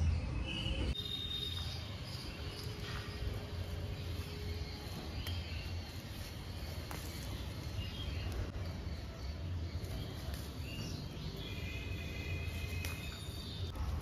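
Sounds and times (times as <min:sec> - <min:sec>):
faint clicks and leaf rustles: 0:01.2 - 0:14.0.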